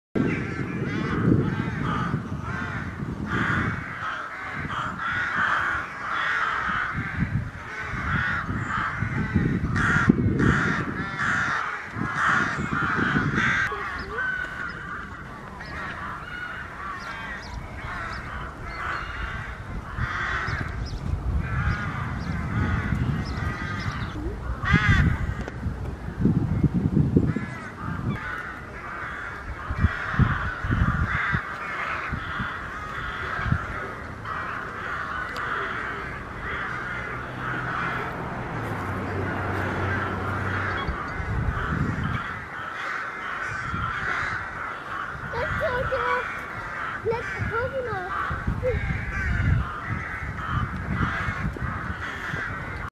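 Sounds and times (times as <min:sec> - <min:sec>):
rooks cawing: 0:00.2 - 0:25.6, 0:27.2 - 0:52.9.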